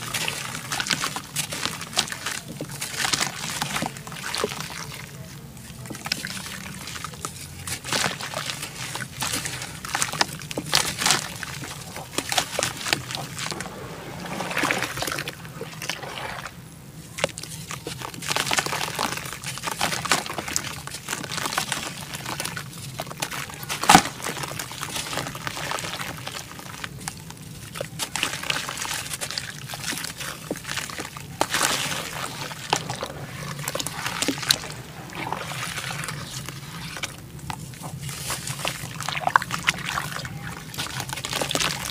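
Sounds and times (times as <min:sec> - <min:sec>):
dirt crumbling into water: 0:00.0 - 0:16.6, 0:17.2 - 0:41.9
muddy water sloshing: 0:00.0 - 0:41.9.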